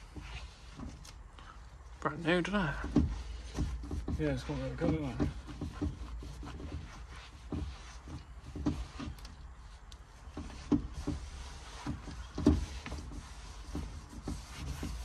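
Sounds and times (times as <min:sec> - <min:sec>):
gloved hand handling noises: 0:00.0 - 0:01.9, 0:02.7 - 0:15.0
cloth wiping steering wheel: 0:00.0 - 0:15.0.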